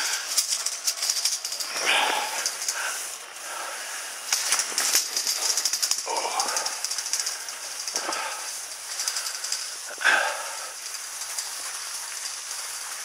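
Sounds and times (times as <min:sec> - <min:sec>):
drag-lift rattling clatter: 0:00.0 - 0:13.0
skis scraping over snow: 0:00.0 - 0:13.0.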